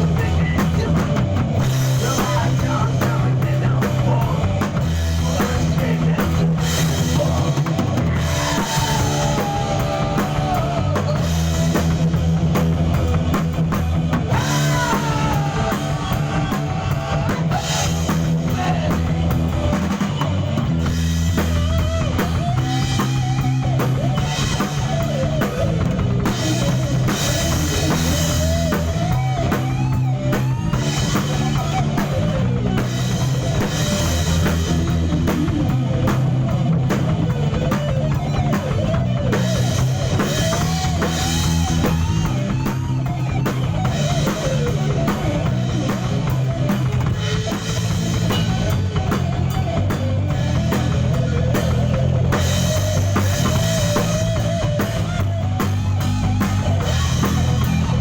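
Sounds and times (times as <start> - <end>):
bass line: 0.0 - 58.0
drum kit beat: 0.0 - 58.0.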